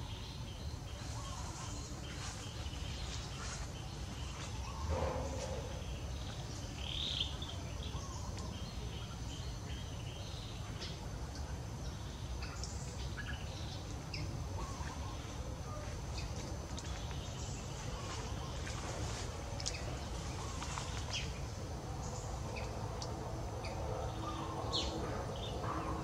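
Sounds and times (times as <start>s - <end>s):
constant low rumble: 0.0s - 26.0s.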